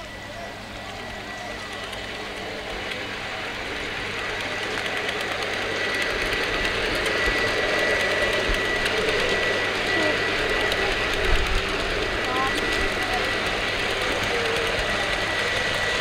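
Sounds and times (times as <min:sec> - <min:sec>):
machine running with high whine: 0:00.0 - 0:16.0.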